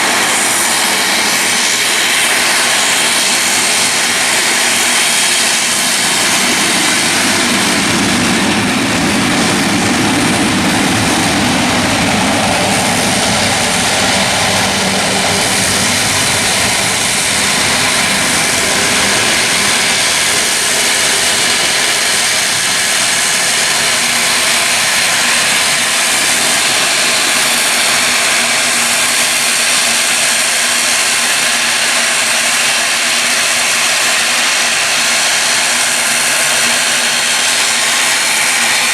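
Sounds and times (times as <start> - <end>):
airliner engines roaring: 0.0 - 38.9.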